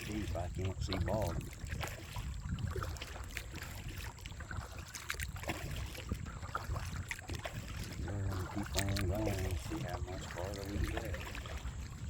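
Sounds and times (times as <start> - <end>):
paddle splashes in water: 0.0 - 12.0
wind rumble on microphone: 0.0 - 12.0.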